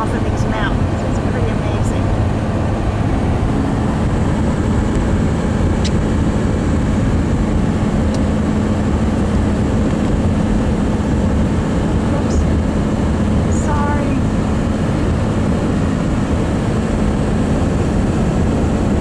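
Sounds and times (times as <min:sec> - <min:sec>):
constant low hum: 0:00.0 - 0:19.0
vehicle road and engine noise: 0:00.0 - 0:19.0.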